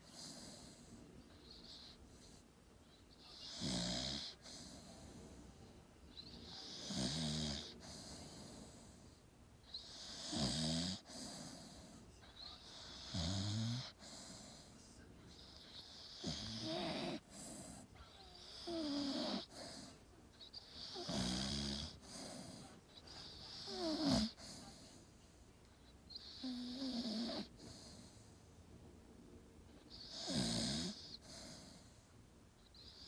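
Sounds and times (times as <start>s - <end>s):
dog snoring: 0.0s - 2.4s, 3.2s - 5.4s, 6.1s - 25.0s, 26.1s - 28.3s, 29.8s - 32.0s, 32.6s - 33.0s.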